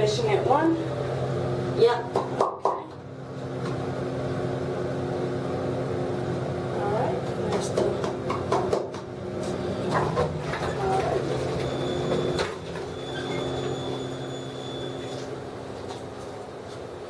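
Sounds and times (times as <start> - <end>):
elevator machine and fan hum: 0.0 - 17.0.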